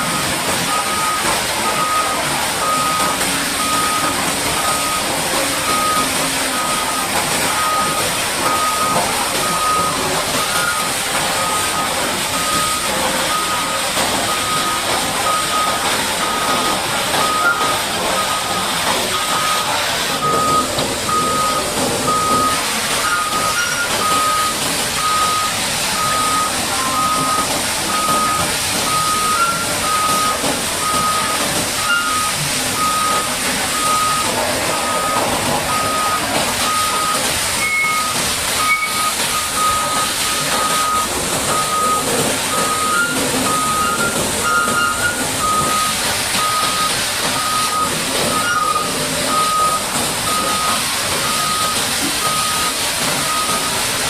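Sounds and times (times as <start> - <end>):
reversing alarm beeping: 0.0 - 54.0.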